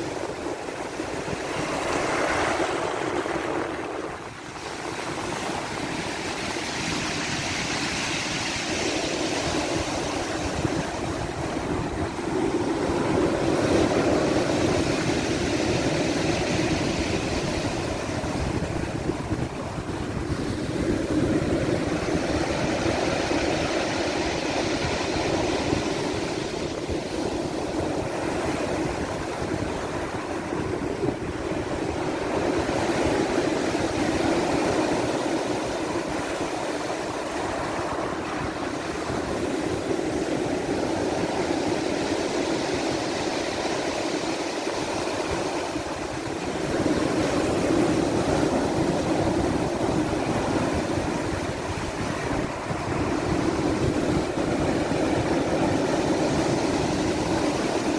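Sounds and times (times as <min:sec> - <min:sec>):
sea waves washing in: 0:00.0 - 0:57.9.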